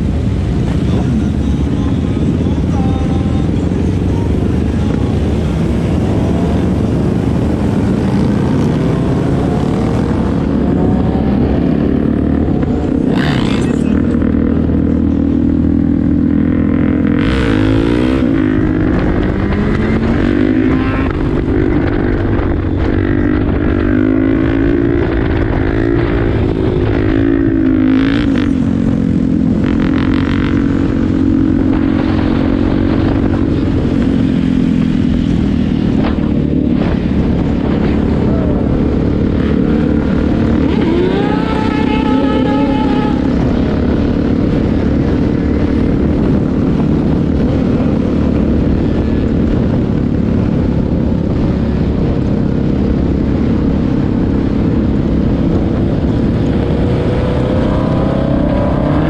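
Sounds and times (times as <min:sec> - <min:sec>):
motorcycle engines running: 0:00.0 - 0:59.0
wind rushing over microphone: 0:00.0 - 0:59.0.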